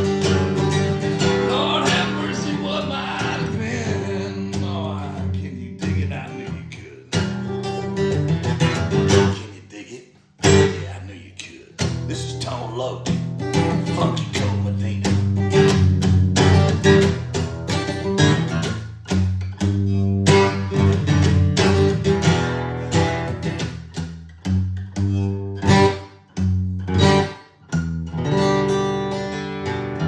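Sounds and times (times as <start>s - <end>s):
guitar strumming chords: 0.0s - 9.5s, 10.4s - 10.9s, 11.8s - 30.0s.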